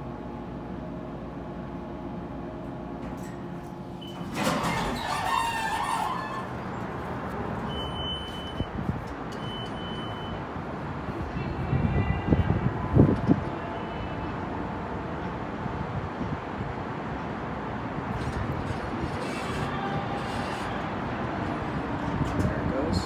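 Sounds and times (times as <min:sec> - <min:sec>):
busy background noise: 0:03.9 - 0:23.0.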